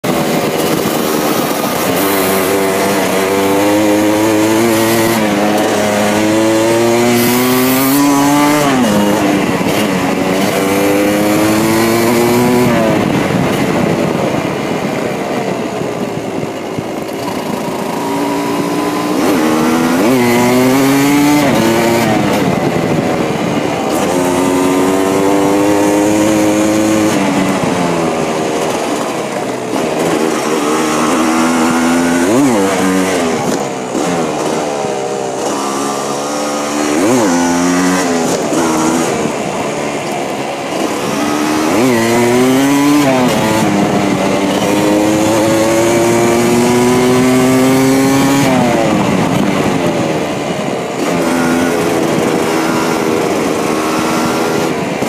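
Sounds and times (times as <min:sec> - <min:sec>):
two-stroke motorcycle engine shifting gears: 0:00.0 - 0:55.0.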